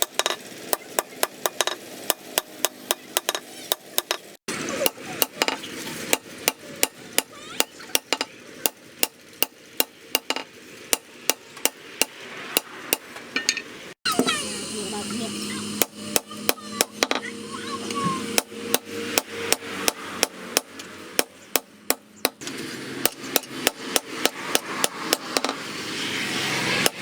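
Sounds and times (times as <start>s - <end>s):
hammer striking steel on anvil: 0.0s - 13.8s, 15.8s - 17.3s, 18.3s - 25.6s.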